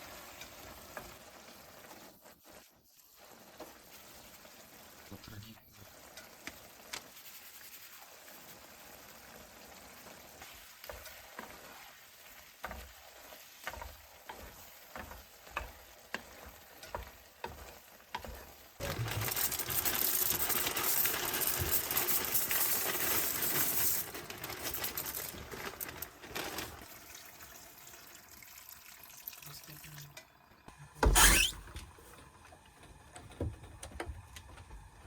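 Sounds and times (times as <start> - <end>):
food sizzling on hot surface: 0.0 - 29.2, 31.1 - 31.6.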